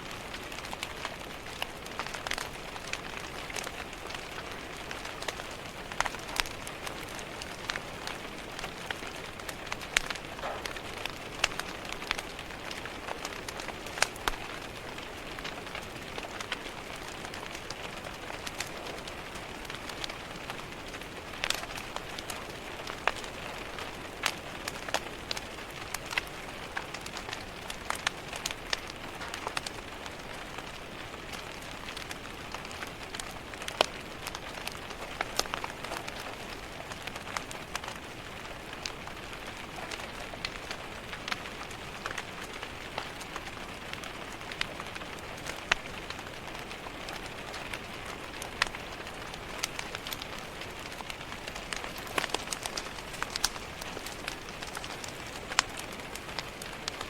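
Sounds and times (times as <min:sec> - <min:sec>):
rain on a window: 0:00.0 - 0:57.0
wood fire crackling: 0:00.0 - 0:57.0.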